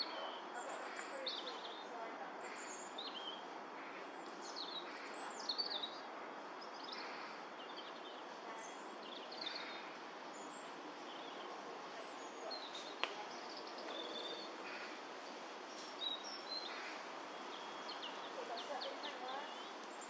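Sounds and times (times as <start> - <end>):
robin singing: 0.0 - 15.0, 15.6 - 20.0.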